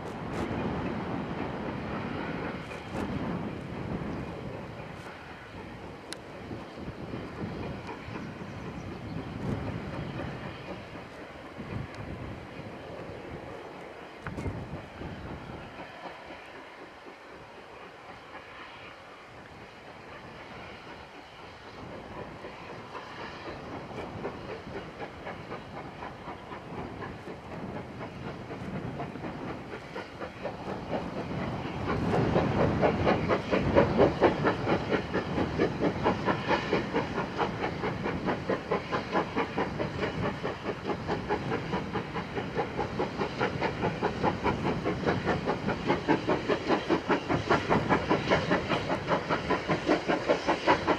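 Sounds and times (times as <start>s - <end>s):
steam hissing: 0.0s - 50.9s
steam locomotive chuffing: 0.0s - 50.9s.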